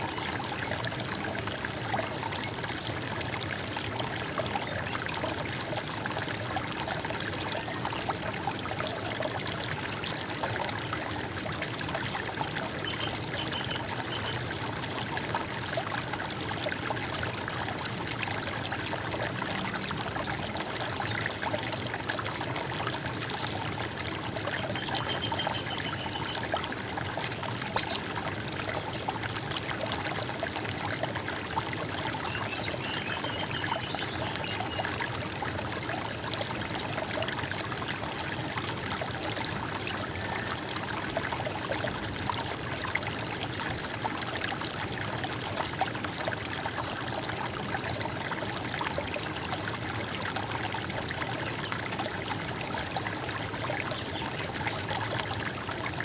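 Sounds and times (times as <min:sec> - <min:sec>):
running water gurgling: 0:00.0 - 0:56.0.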